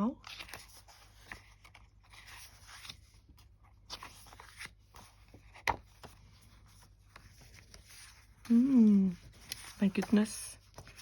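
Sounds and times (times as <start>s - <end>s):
paper rustling: 0.2s - 11.0s.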